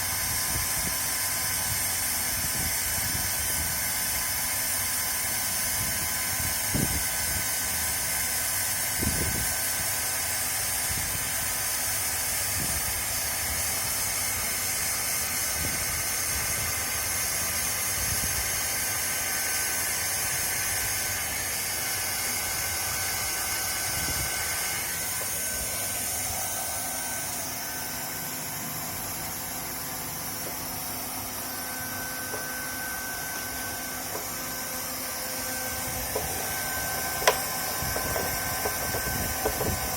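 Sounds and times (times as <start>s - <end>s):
hot-air welder hissing: 0.0s - 39.9s.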